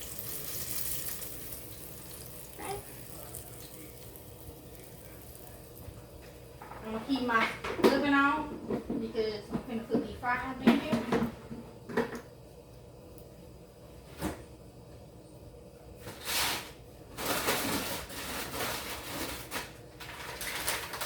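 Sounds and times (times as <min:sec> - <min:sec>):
fries rustling and clattering: 0:00.0 - 0:12.2, 0:16.0 - 0:21.0.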